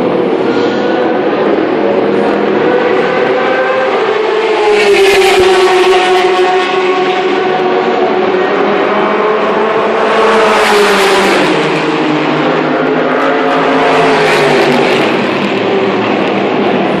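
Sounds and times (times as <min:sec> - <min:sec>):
race cars passing at high revs: 0:00.0 - 0:17.0.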